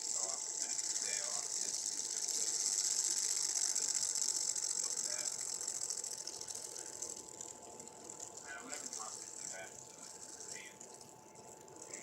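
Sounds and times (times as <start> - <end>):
fidget spinner whirring: 0.0 - 12.0.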